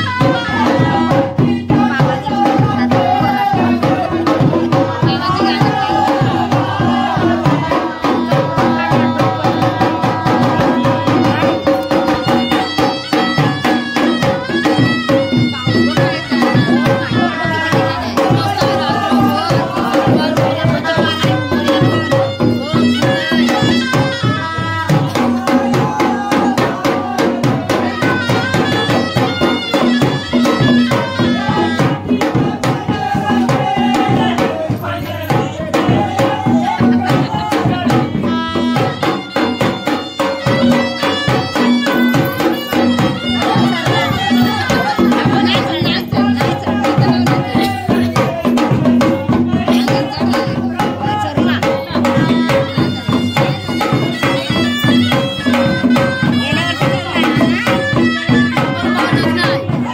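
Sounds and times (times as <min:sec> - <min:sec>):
fast dense drumming: 0:00.0 - 0:59.9
held folk melody: 0:00.0 - 0:59.9.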